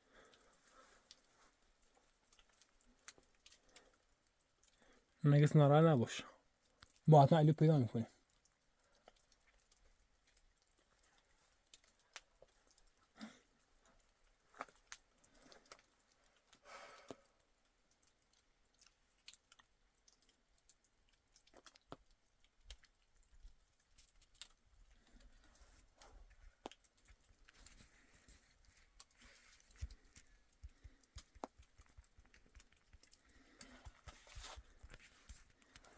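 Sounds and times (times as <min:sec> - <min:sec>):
faint clicks and crunches: 0:00.0 - 0:05.2, 0:06.4 - 0:07.1, 0:08.1 - 0:35.9.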